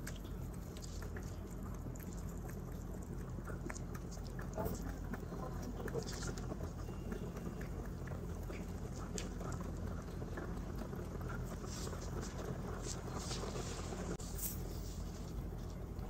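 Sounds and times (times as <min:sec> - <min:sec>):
rabbits chewing hay: 0:00.0 - 0:16.0
steady low hum: 0:00.0 - 0:16.0.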